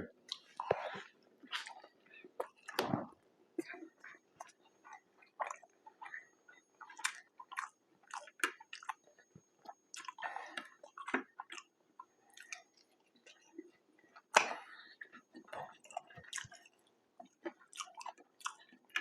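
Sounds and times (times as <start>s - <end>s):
close-miked chewing: 0.0s - 19.0s.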